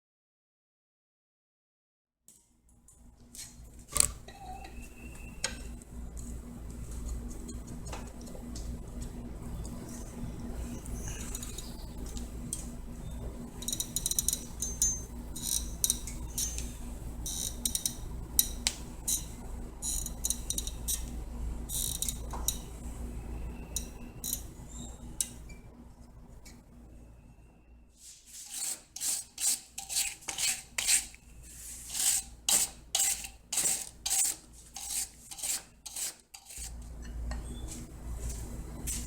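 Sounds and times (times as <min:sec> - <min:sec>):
steady low hum: 0:02.6 - 0:39.0.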